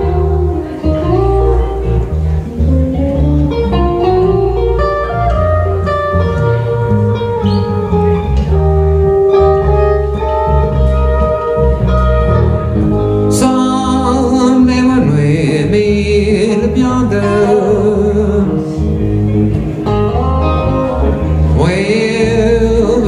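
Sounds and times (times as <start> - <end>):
lead guitar melody: 0.0 - 23.0
rhythm guitar: 0.0 - 23.0
steady bass line: 0.0 - 23.0.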